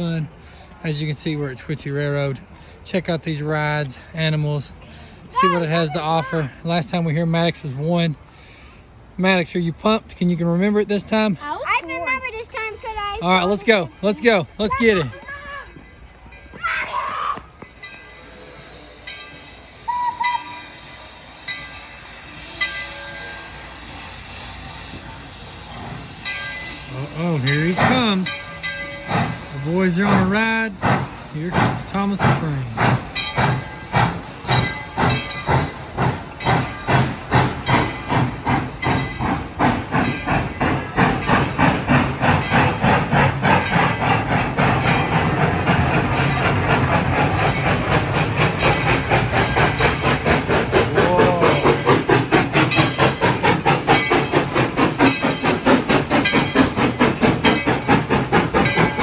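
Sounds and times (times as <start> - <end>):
steam locomotive chuffing: 0.0 - 15.5, 17.5 - 59.0
ride train hissing: 0.0 - 59.0.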